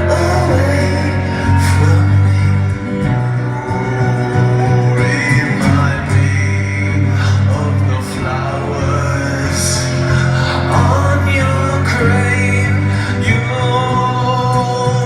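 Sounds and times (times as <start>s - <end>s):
acoustic rock band: 0.0s - 15.0s
person singing: 0.0s - 15.0s.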